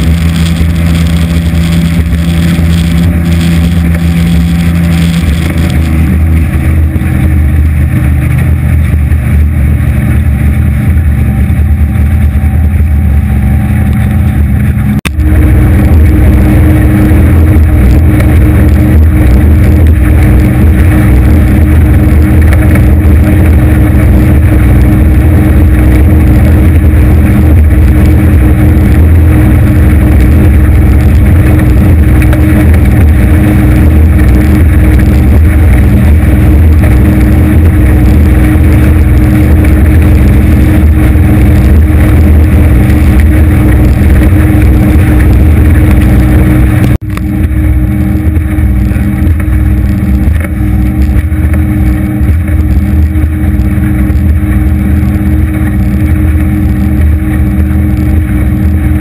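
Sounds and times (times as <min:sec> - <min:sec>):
outboard engine drone: 0:00.0 - 0:59.0
rushing water: 0:00.0 - 0:59.0
wind: 0:00.0 - 0:59.0.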